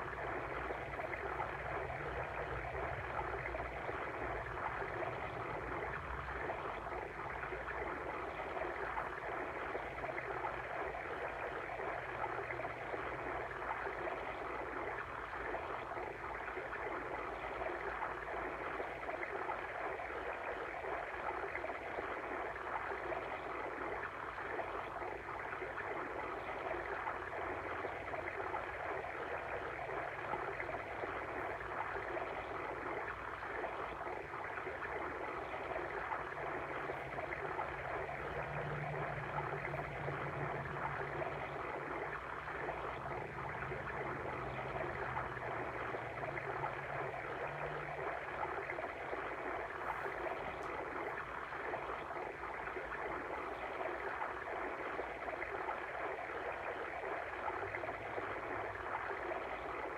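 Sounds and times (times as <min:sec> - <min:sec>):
water stream babbling: 0:00.0 - 0:59.9.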